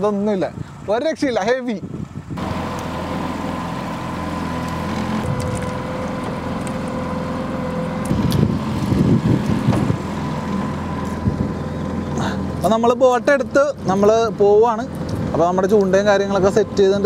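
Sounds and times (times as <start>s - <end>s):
outboard motor running: 2.2s - 17.0s.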